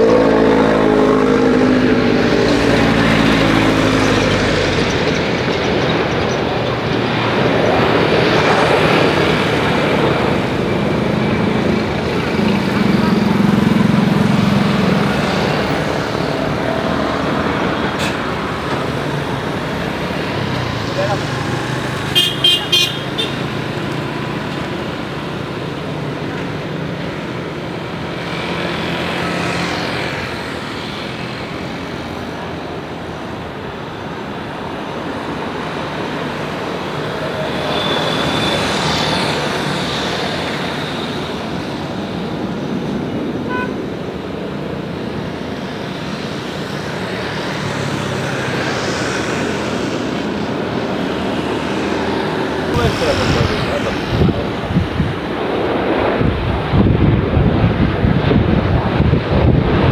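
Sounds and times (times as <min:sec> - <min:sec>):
jet engines running: 0:00.0 - 0:59.9
road vehicles passing: 0:00.0 - 0:59.9.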